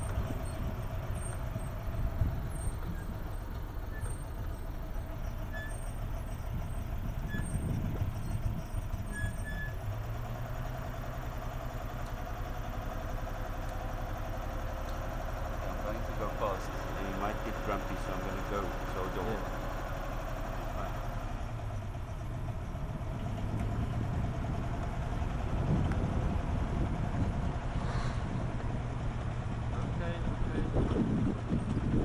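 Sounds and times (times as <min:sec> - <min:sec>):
vehicle engine running steadily: 0:00.0 - 0:32.0.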